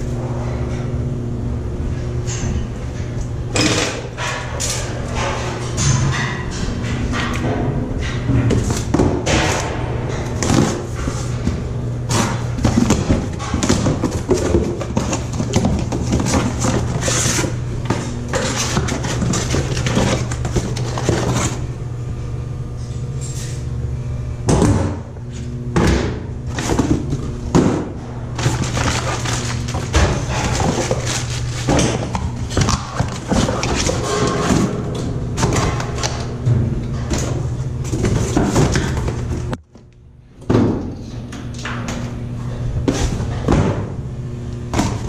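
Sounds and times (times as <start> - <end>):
low machinery hum: 0.0 - 45.0.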